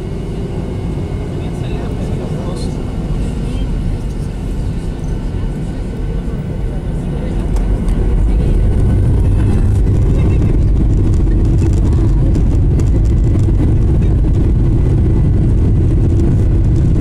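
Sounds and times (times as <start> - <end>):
jet engines roaring in cabin: 0.0 - 17.0.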